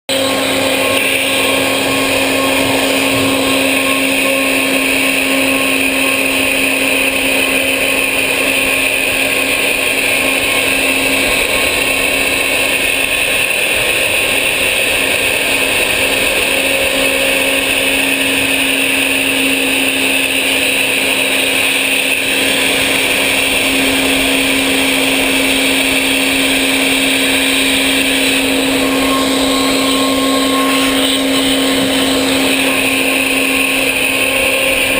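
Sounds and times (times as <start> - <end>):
cnc spindle whine: 0.1 - 34.9.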